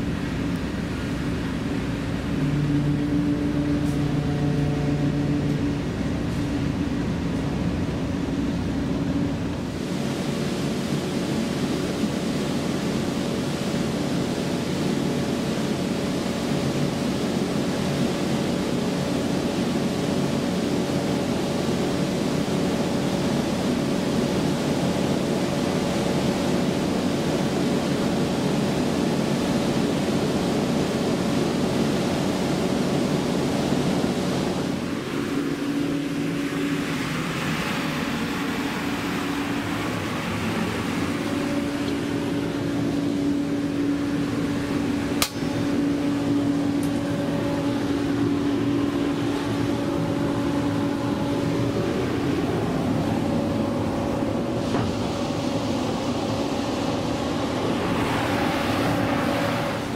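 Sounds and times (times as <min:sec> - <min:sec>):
ship machinery drone: 0:00.0 - 0:59.9.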